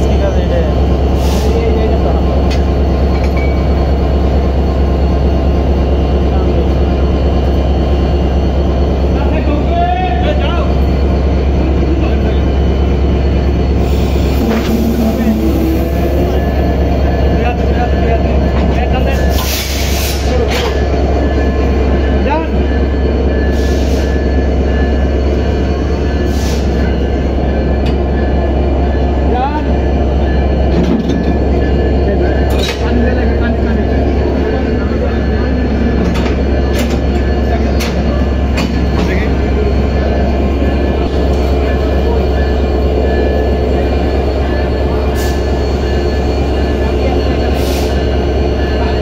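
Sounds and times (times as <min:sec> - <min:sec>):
locomotive engine rumbling: 0:00.0 - 0:49.0.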